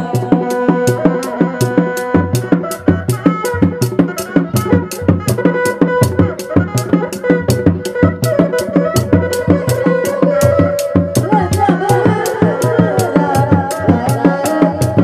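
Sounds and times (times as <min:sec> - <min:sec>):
low drums beating: 0:00.0 - 0:15.0
reedy melody instrument: 0:00.0 - 0:15.0.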